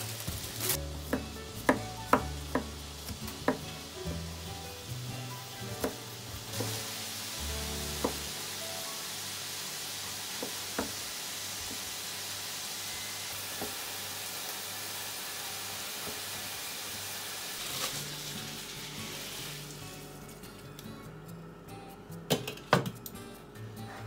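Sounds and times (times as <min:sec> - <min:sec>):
meat sizzling in a frying pan: 0:00.0 - 0:20.2.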